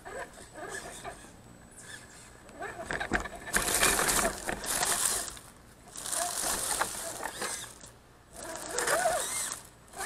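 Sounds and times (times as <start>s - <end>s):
motor whines: 0.0s - 10.0s
rc car drivetrain and tyres: 0.0s - 10.0s.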